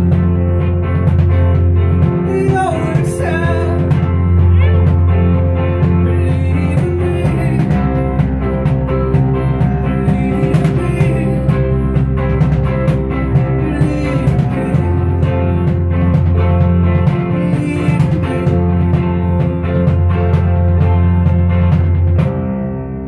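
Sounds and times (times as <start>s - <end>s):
bass guitar: 0.0s - 23.0s
electric guitar: 0.0s - 23.0s
keyboard: 0.0s - 23.0s
strummed acoustic guitar: 0.0s - 23.0s.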